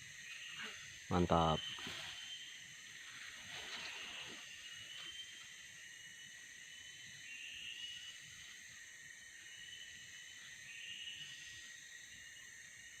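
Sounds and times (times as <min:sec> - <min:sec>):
insects trilling: 0:00.0 - 0:13.0
short wavering insect calls: 0:00.0 - 0:13.0.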